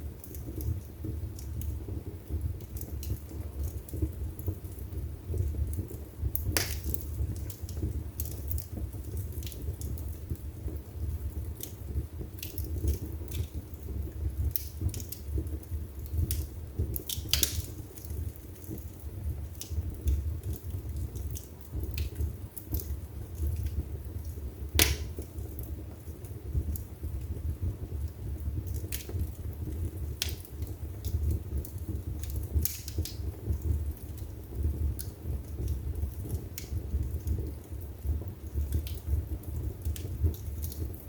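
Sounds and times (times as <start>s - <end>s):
fire crackles and pops: 0.0s - 41.0s
fire flames rumbling: 0.0s - 41.0s.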